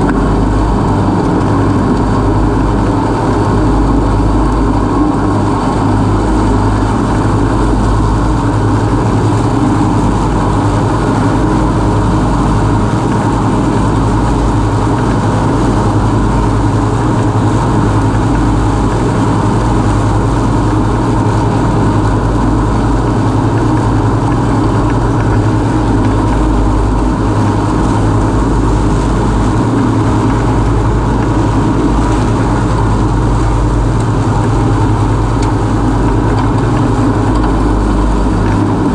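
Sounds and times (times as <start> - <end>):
ride-on mower engine running: 0.0 - 38.9.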